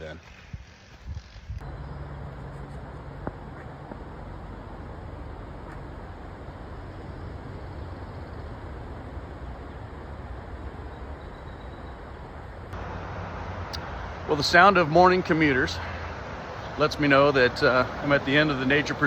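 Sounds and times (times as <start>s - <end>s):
road traffic rushing: 1.6s - 19.0s.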